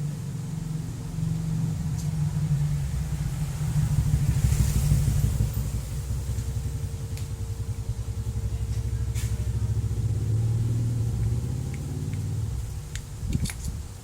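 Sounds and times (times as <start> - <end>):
engine pulsing rumble: 0.0 - 14.0.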